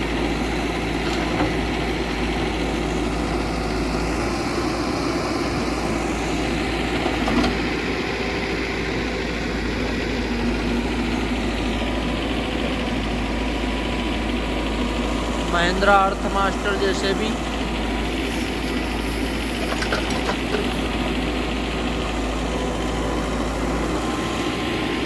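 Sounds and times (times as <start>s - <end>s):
heavy diesel engine idling: 0.0s - 25.0s.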